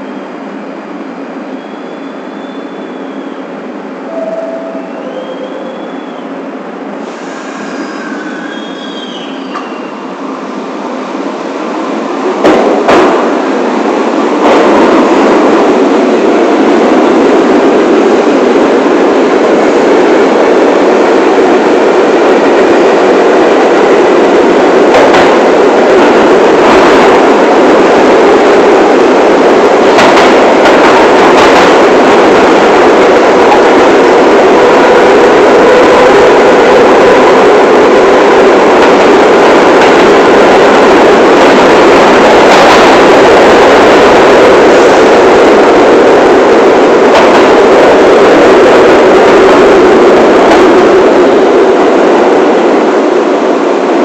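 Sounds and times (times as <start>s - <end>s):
subway train rumbling: 0.0s - 54.0s.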